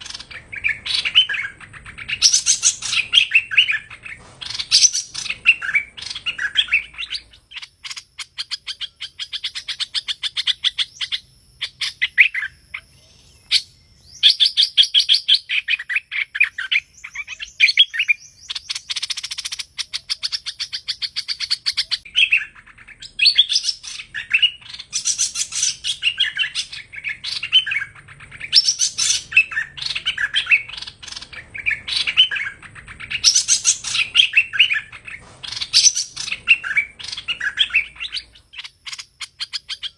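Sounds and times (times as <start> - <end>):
songbird chirping and whistling: 0.0 - 39.9.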